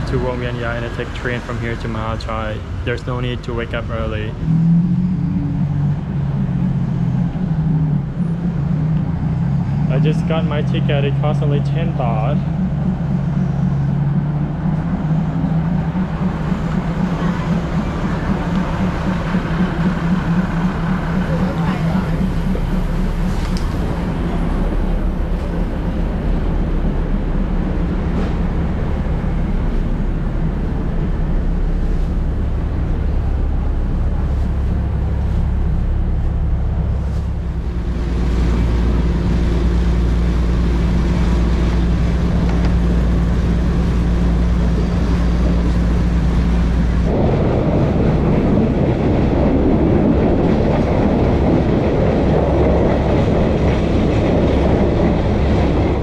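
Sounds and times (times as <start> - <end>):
diesel train engine drone: 0.0 - 56.0
train wheels rattling on track: 5.1 - 35.2, 37.5 - 56.0.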